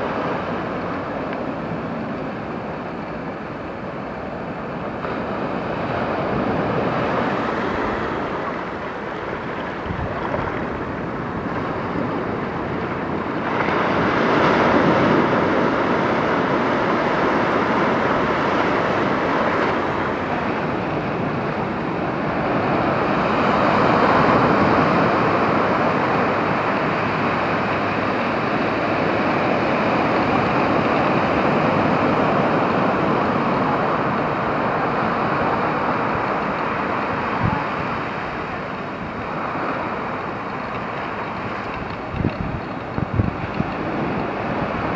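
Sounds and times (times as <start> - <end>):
waves breaking on a beach: 0.0 - 44.9.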